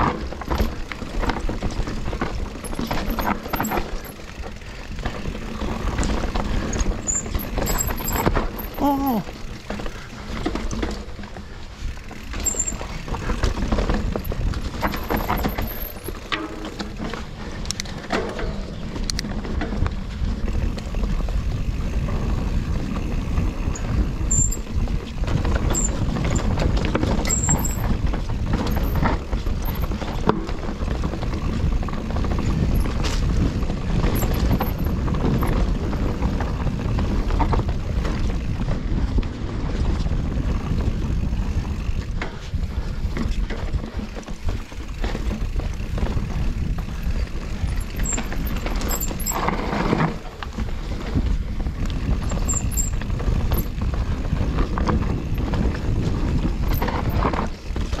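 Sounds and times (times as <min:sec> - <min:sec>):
bike rattling over bumps: 0:00.0 - 0:58.0
tyres rumbling on dirt: 0:00.0 - 0:58.0.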